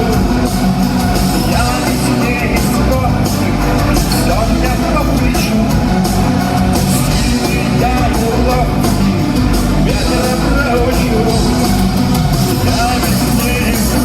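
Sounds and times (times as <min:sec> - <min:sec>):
loud rock band playing: 0:00.0 - 0:14.0.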